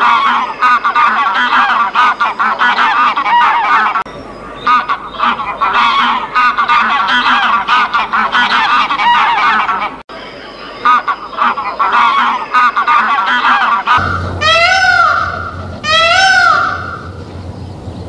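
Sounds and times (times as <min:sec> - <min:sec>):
geese honking: 0:00.0 - 0:18.0.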